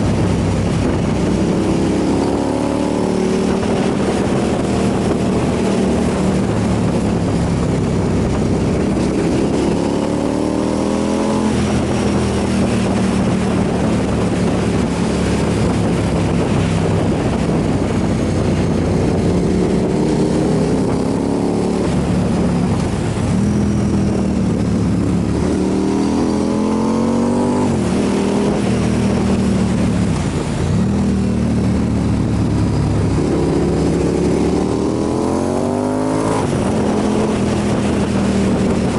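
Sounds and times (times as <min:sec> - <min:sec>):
motorcycle engine accelerating: 0:00.0 - 0:38.9
steady rushing noise: 0:00.0 - 0:38.9.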